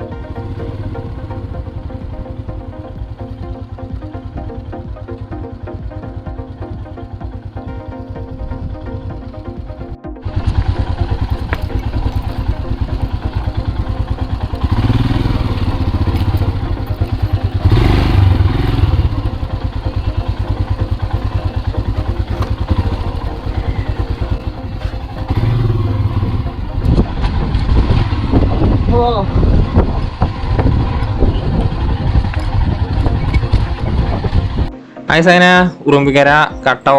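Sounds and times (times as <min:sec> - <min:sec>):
motorcycle engine revving: 0:00.0 - 0:34.8
music: 0:00.0 - 0:36.9.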